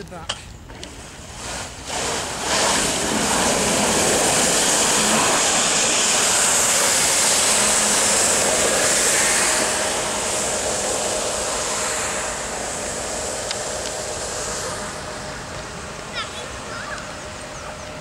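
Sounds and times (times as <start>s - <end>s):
faint motor whine: 0.7s - 18.0s
water jet rushing: 1.1s - 18.0s.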